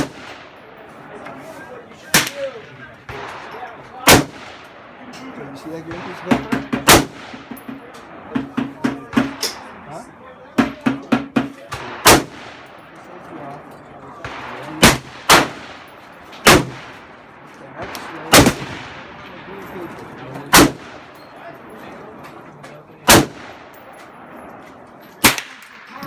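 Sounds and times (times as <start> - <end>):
gunshots: 0.0 - 10.0, 10.6 - 13.2, 14.2 - 21.9, 23.0 - 26.0.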